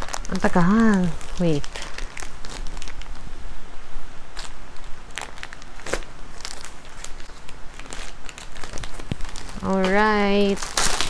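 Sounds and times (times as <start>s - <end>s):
plastic packaging crinkling: 0.0s - 3.4s, 4.3s - 11.0s.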